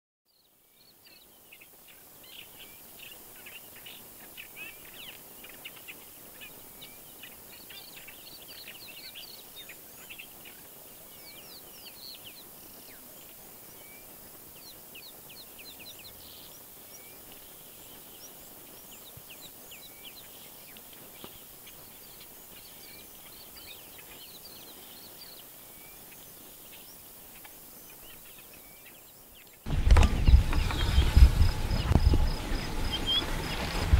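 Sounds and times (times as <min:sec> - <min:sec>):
birds chirping: 0:00.3 - 0:33.9
faint steady hiss: 0:00.3 - 0:33.9.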